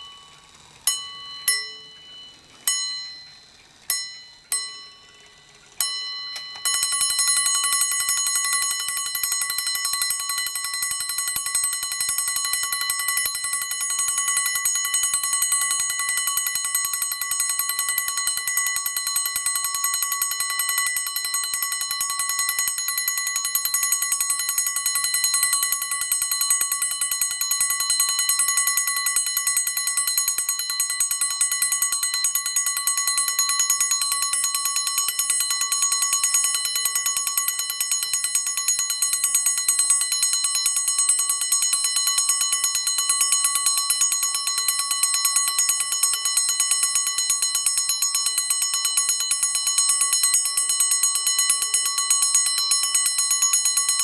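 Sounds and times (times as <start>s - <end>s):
alarm clock bell ringing: 0.0s - 54.0s.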